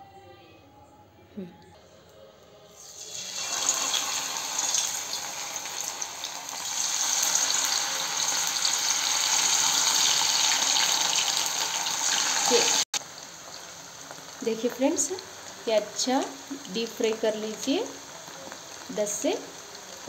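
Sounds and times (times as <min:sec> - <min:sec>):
food deep-frying in oil: 0:02.8 - 0:20.0.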